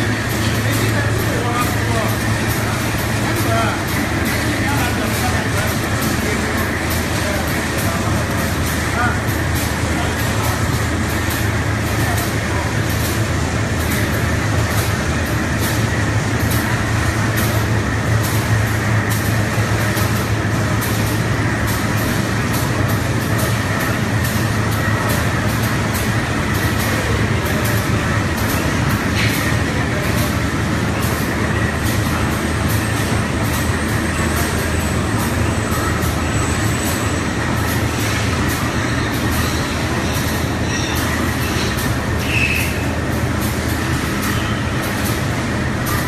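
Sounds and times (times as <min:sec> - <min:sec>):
factory machinery hum: 0:00.0 - 0:46.0.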